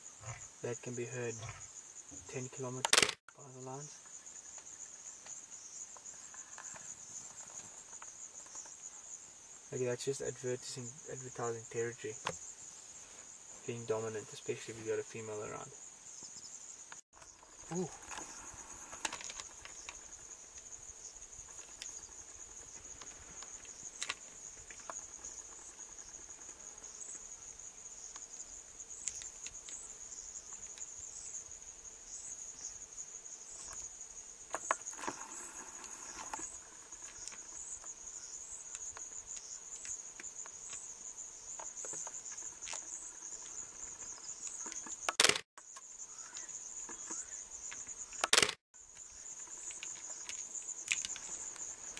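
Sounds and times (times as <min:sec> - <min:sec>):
crickets chirping: 0:00.0 - 0:51.9.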